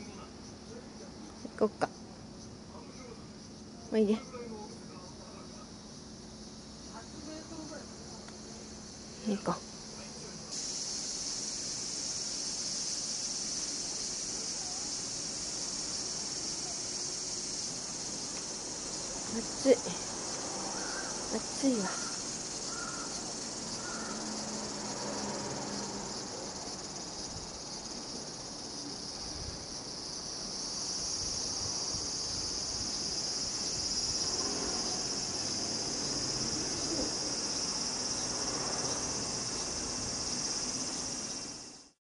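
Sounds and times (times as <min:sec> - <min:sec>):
high-pitched insect chorus: 0:00.0 - 0:42.0.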